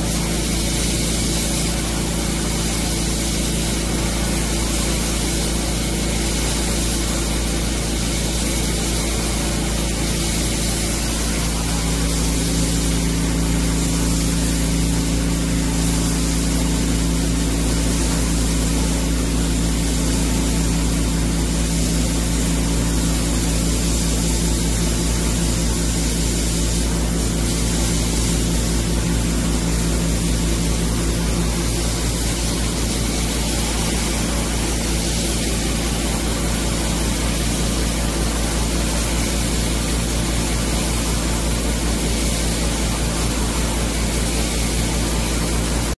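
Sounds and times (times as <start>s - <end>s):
hiss of abrasive blast: 0.0s - 45.9s.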